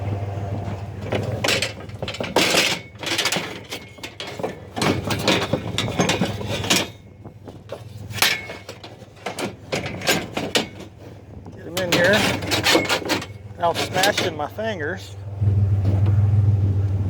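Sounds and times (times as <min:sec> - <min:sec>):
metal bed frames clanking: 0:01.0 - 0:14.8.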